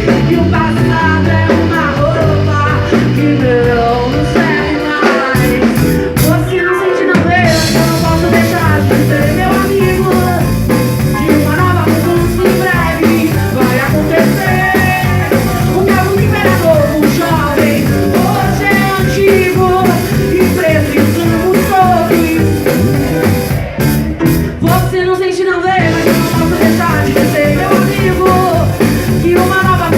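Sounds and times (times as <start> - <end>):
live band music: 0.0 - 29.9
person singing lead vocal: 0.0 - 29.9.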